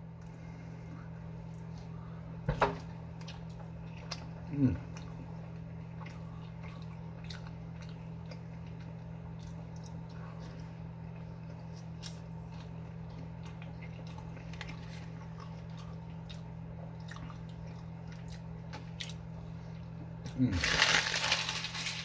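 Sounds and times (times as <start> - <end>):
steady low hum: 0.0 - 22.0
person chewing: 2.9 - 21.9.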